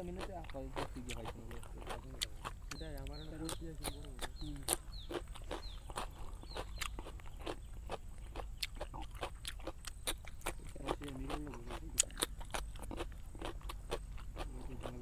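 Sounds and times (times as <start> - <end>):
close chewing with lip smacks: 0.0 - 15.0.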